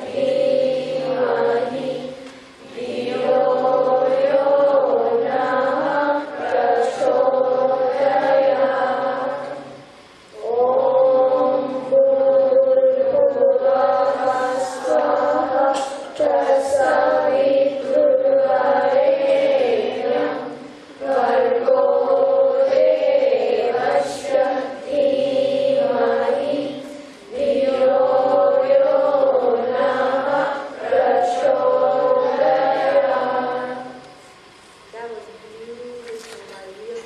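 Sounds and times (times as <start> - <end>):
group chanting in unison: 0.0 - 34.2.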